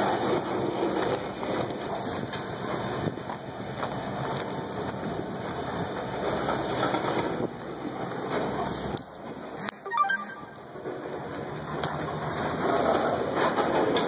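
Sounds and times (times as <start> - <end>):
freight train wheels rumbling: 0.0 - 9.6, 10.7 - 14.0.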